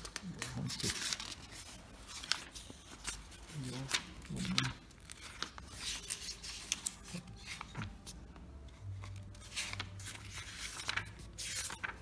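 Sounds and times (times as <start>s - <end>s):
pages turning: 0.0s - 12.0s.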